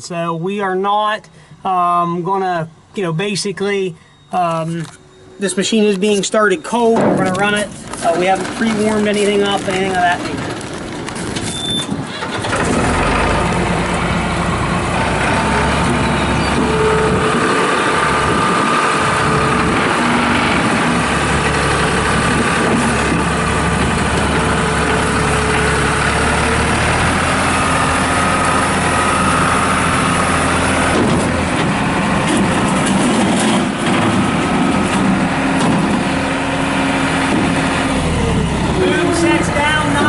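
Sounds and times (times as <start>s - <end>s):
diesel engine starting and running: 4.0s - 40.0s.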